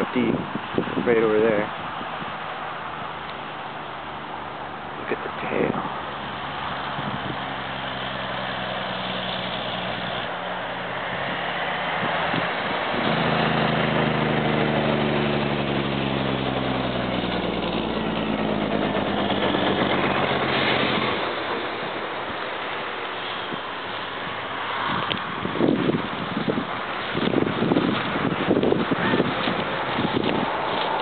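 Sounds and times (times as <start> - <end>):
wind hiss: 0.0 - 31.0
motor vehicle engine running: 1.4 - 31.0.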